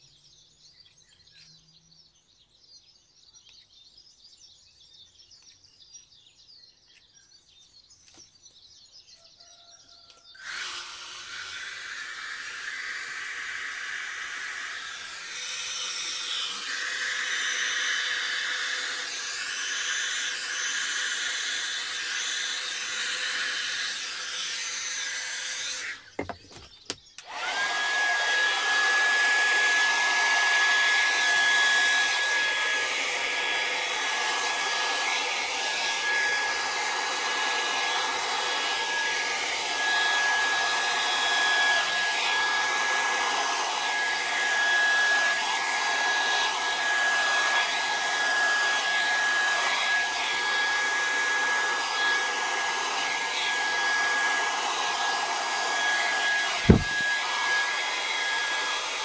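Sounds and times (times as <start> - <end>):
blow-dryer whine and air rush: 10.4 - 26.4, 27.2 - 59.0.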